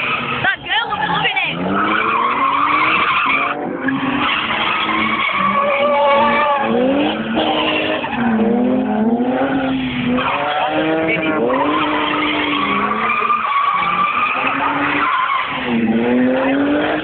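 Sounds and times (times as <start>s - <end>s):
car engines revving: 0.0s - 17.0s
tyres skidding and squealing: 0.0s - 17.0s.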